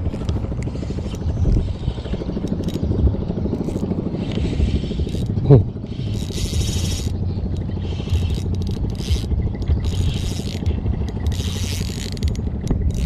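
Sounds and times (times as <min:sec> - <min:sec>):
fishing reel whirring and ticking: 0:00.0 - 0:13.0.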